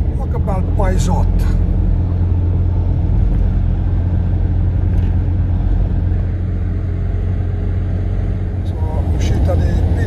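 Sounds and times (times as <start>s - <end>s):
road and tyre rumble: 0.0s - 10.0s
truck engine drone: 0.0s - 10.0s.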